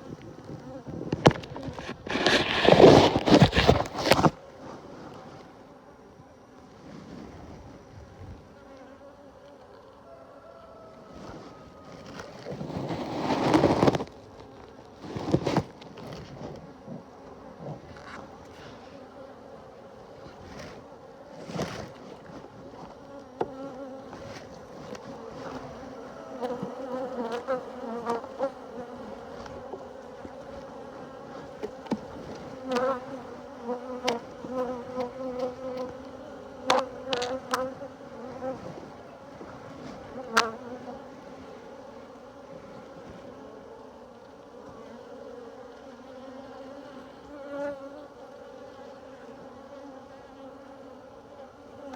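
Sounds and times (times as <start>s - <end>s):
honeybees buzzing: 0.0s - 4.6s, 7.7s - 51.9s.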